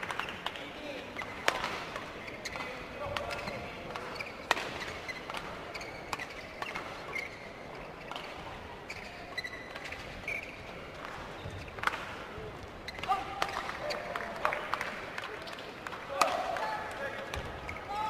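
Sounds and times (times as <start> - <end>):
shoes squeaking on court: 0.2 - 14.2, 17.3 - 18.0.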